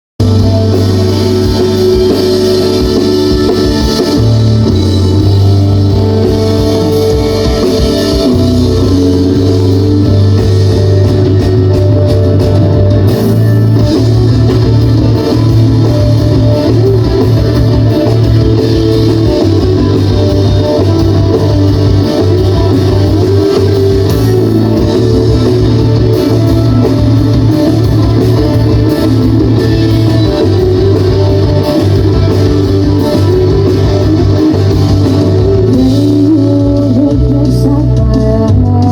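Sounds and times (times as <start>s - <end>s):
rock band playing live: 0.2s - 38.9s.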